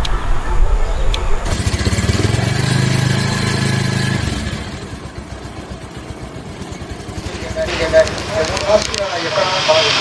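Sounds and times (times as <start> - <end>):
motorcycle pulling away: 1.4 - 10.0.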